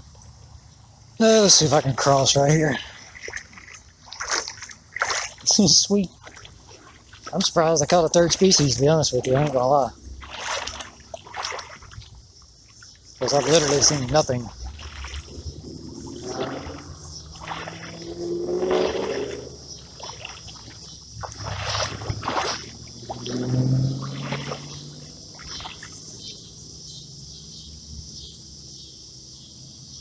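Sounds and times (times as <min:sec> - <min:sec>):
crickets chirping: 0:00.0 - 0:30.0
water sloshing around wading legs: 0:01.4 - 0:26.5.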